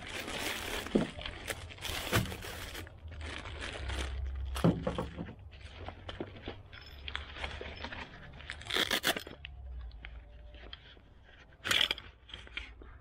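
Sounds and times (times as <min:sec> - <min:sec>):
cloth and packaging rustling: 0:00.0 - 0:13.0.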